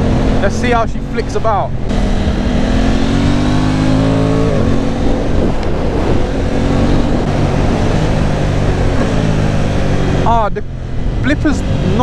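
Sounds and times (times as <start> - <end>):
motorcycle engine accelerating: 0.0 - 12.0
wind rushing over microphone: 0.0 - 12.0.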